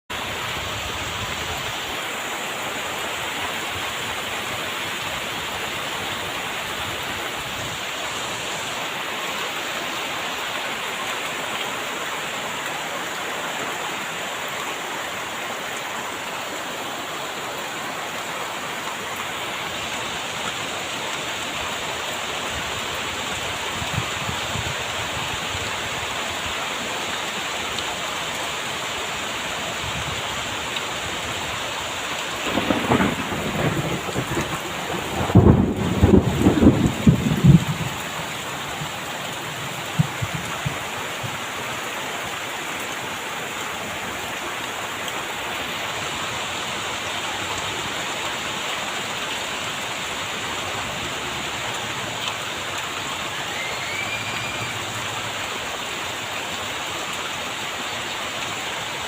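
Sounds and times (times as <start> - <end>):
heavy rain pouring: 0.1 - 59.0.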